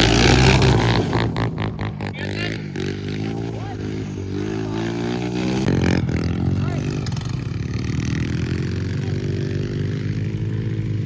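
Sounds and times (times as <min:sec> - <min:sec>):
small engine running and revving: 0:00.0 - 0:11.0.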